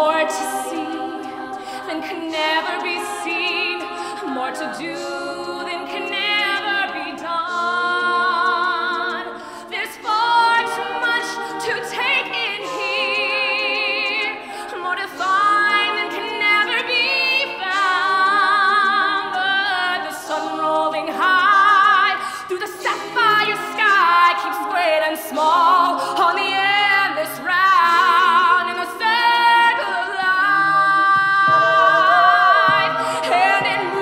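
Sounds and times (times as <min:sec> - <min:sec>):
women singing sustained chords: 0:00.0 - 0:34.0.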